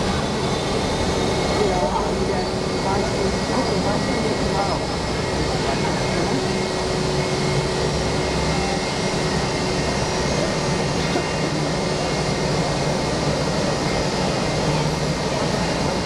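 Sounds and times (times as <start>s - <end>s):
jet aircraft noise: 0.0s - 16.0s.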